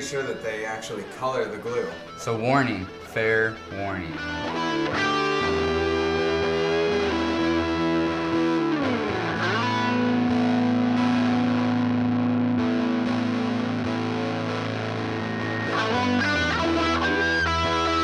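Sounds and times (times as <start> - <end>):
distorted electric guitar: 1.7 - 18.0.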